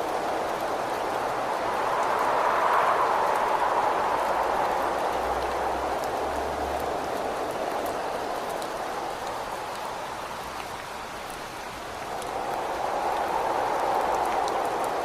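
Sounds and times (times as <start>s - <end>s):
wind rushing: 0.0s - 10.0s, 11.8s - 15.0s
rain drops ticking on window: 0.0s - 15.0s.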